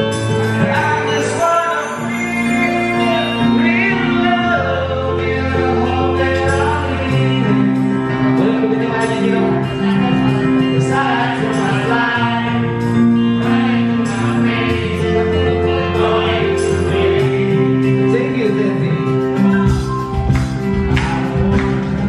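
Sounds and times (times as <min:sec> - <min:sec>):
live band playing: 0:00.0 - 0:22.0
low held bass notes: 0:00.0 - 0:22.0
man and woman singing: 0:00.6 - 0:18.4.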